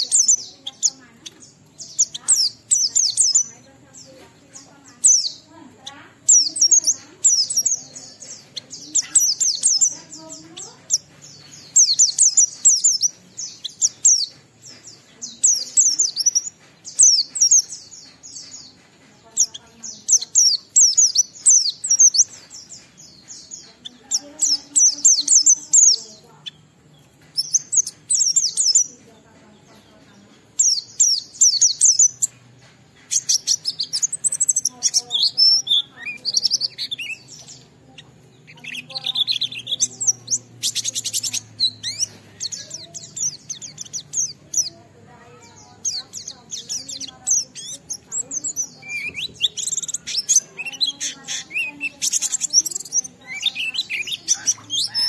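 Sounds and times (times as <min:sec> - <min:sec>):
bird high-pitched chirping song: 0:00.0 - 0:55.0.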